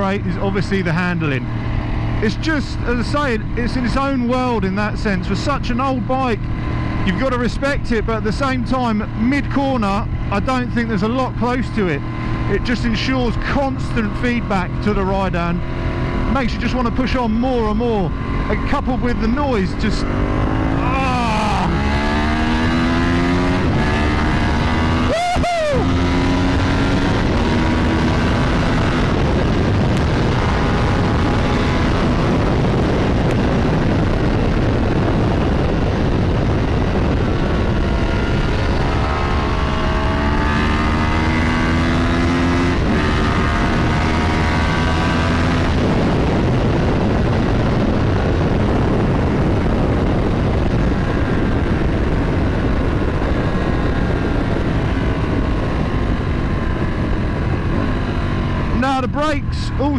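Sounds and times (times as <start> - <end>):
motorcycle engine at speed: 0.0 - 59.9
wind rush on microphone: 0.0 - 59.9.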